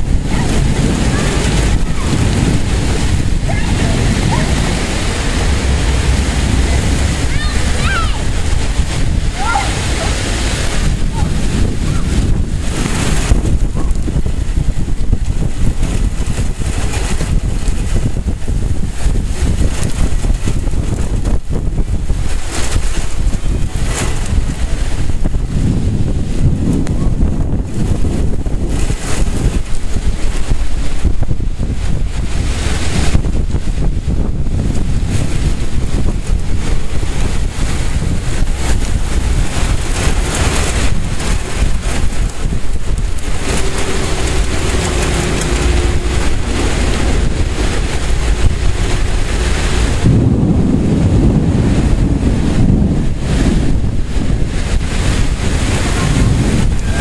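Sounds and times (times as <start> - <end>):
rain hissing: 0.0 - 57.0
wind buffeting microphone: 0.0 - 57.0
wind gusting: 0.0 - 57.0.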